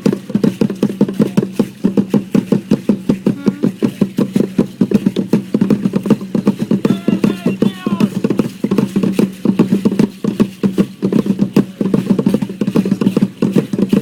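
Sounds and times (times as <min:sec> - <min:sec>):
drum beaten in fast rhythm: 0:00.0 - 0:14.0.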